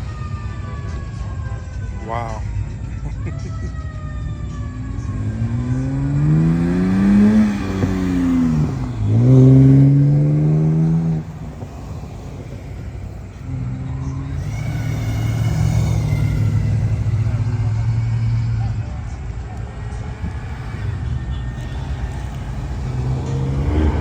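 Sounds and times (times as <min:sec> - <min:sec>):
car engine revving: 0:04.2 - 0:24.0.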